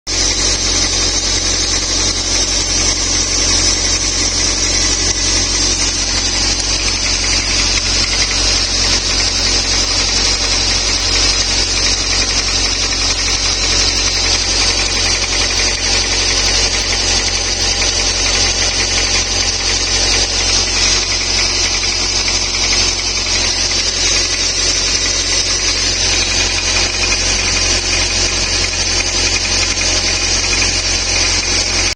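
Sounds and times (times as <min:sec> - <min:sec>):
car engine running: 0:00.0 - 0:31.9.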